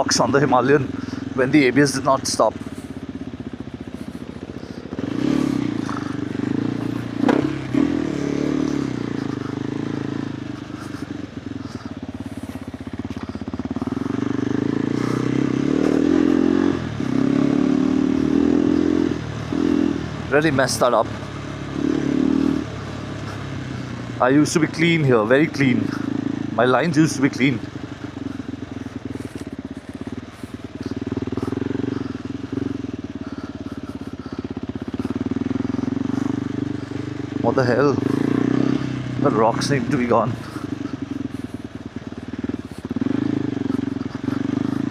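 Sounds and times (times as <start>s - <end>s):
motorcycle engine lugging: 0.0s - 17.2s, 18.2s - 44.9s.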